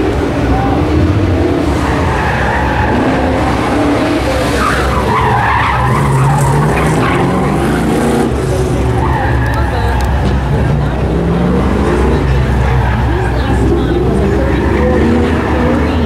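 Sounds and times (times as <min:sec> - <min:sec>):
car engine running hard: 0:00.0 - 0:16.0
tires squealing: 0:00.0 - 0:16.0.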